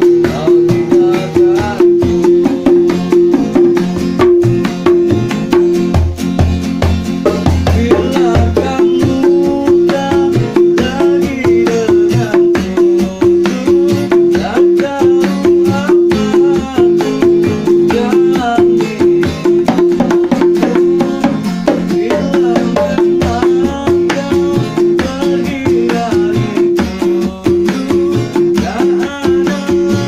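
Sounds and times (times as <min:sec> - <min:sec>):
hand drums fast rhythm: 0:00.0 - 0:30.0
pitched melody line: 0:00.0 - 0:30.0.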